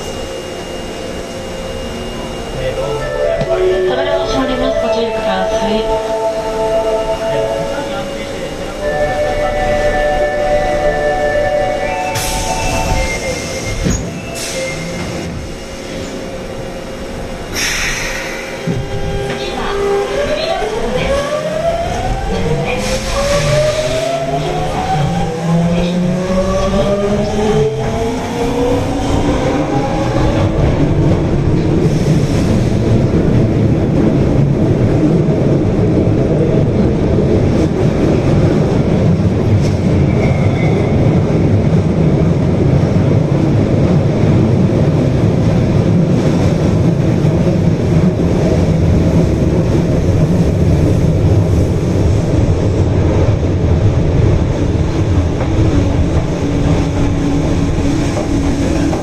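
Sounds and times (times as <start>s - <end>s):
subway motor whine: 0.0s - 59.0s
train rumbling through tunnel: 0.0s - 59.0s.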